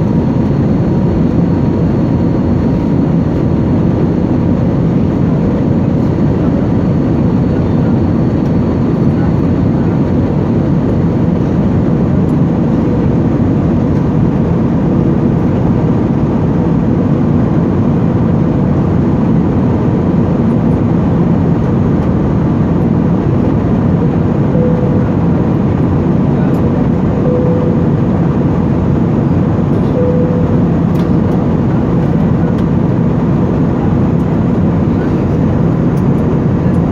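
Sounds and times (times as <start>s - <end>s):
jet airliner cabin drone: 0.0s - 36.9s.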